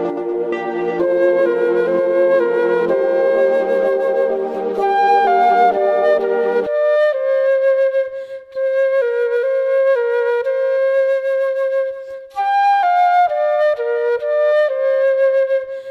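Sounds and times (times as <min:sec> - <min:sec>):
flute-like melody: 0:00.0 - 0:15.9.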